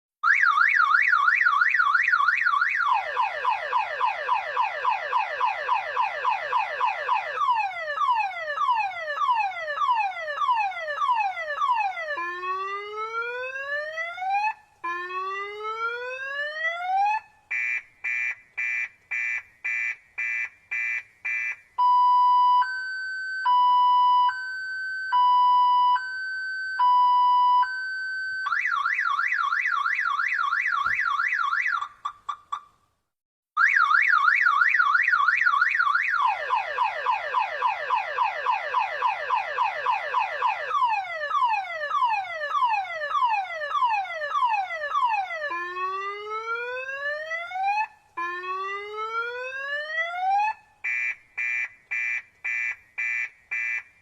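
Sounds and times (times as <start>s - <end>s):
car alarm siren: 0.2s - 32.6s, 33.6s - 54.0s.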